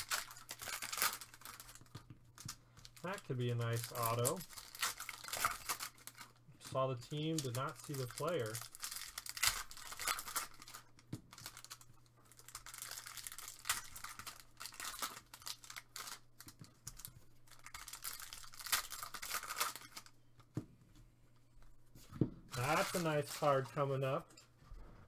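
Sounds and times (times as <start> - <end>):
foil wrapper tearing and crinkling: 0.0 - 6.4, 7.0 - 20.1, 22.6 - 23.9.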